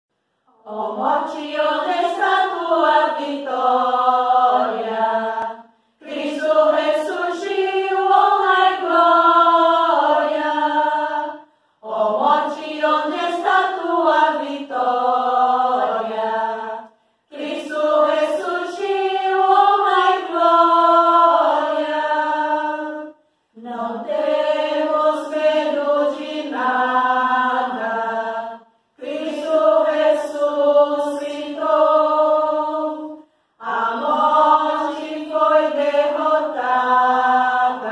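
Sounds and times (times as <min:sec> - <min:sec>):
women singing a hymn unaccompanied: 0:00.5 - 0:37.9.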